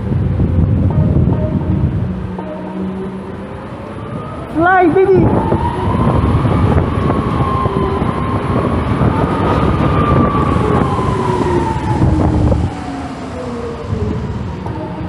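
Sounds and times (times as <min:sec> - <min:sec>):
electric scooter motor whine: 0:00.0 - 0:15.0
wind buffeting microphone: 0:00.0 - 0:15.0.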